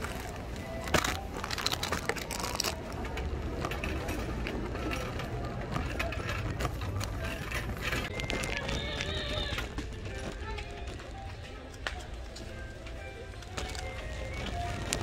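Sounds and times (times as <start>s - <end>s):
shopping cart wheels rumbling: 0.0s - 15.0s.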